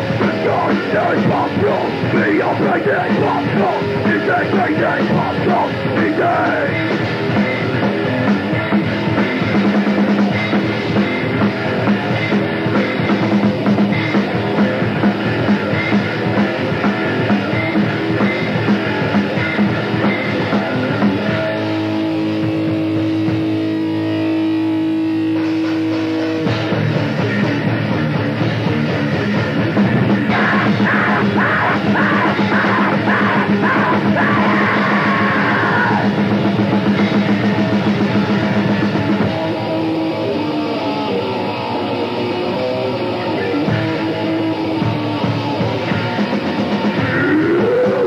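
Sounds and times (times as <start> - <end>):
grindcore band playing fast: 0.0 - 48.0.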